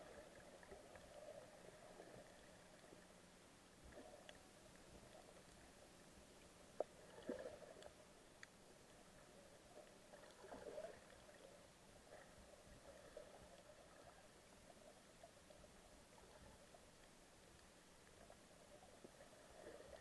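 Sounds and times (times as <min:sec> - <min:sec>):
faint underwater noise: 0:00.0 - 0:20.0.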